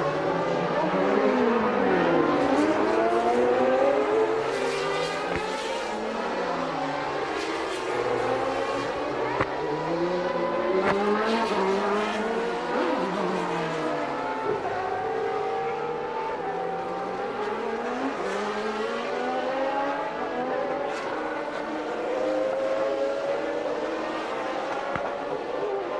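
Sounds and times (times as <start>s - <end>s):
racing car engines: 0.0s - 25.9s.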